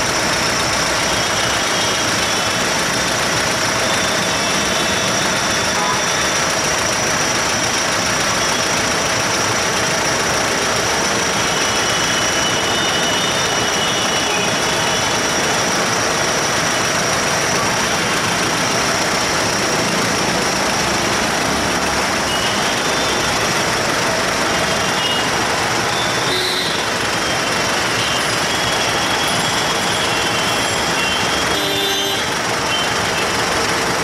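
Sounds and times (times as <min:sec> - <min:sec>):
traffic engines idling: 0:00.0 - 0:34.0.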